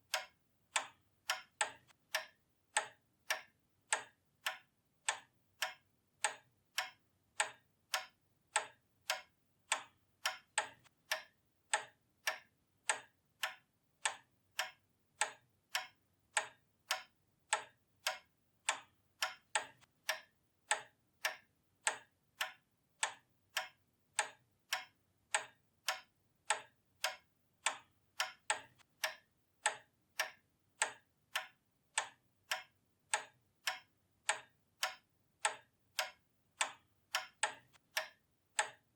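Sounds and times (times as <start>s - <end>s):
pendulum clock ticking: 0.0s - 38.9s.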